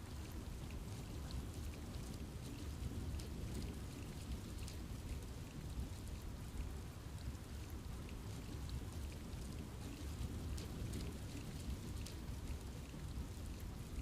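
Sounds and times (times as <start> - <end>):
rain falling in a forest: 0.0 - 14.0.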